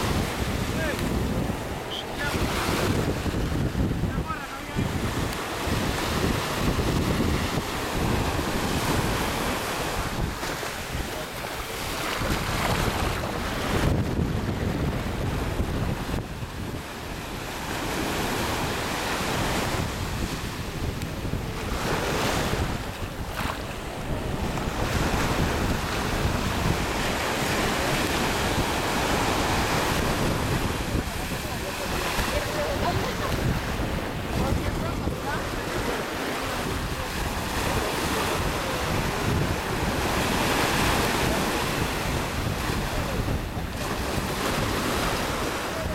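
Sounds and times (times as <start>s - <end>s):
sea surf washing in: 0.0s - 45.9s
wind buffeting the microphone: 0.0s - 45.9s.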